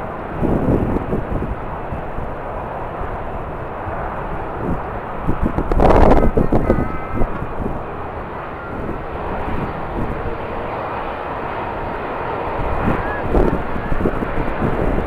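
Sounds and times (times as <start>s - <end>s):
jet engines: 0.0s - 15.0s
wind buffeting microphone: 0.0s - 15.0s.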